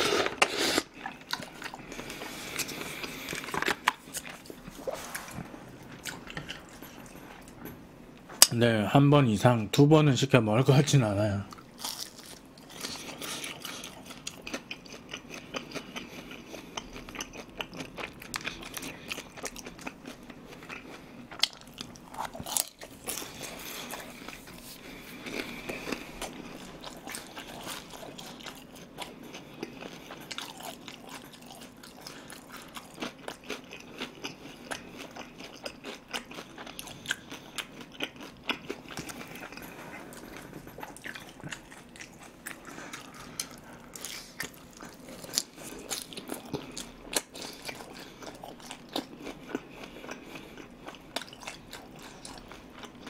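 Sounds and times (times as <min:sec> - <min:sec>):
person chewing crunchy food: 0:00.0 - 0:07.8, 0:11.5 - 0:53.0.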